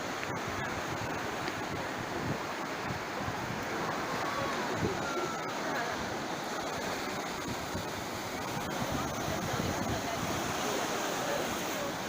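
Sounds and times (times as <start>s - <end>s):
sea surf washing onto shore: 0.0s - 12.0s.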